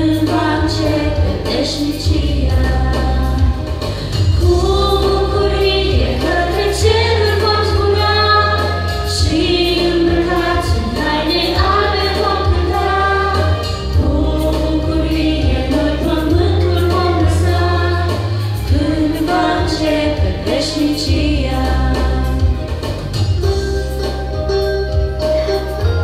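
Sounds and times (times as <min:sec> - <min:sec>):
woman singing through loudspeaker: 0:00.0 - 0:22.7
accompaniment with bass notes: 0:00.0 - 0:26.0.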